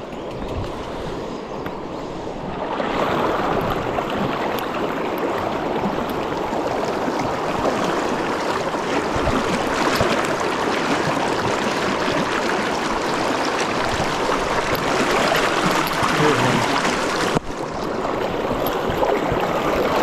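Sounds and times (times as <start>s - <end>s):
river rushing over riffles: 1.1s - 20.0s.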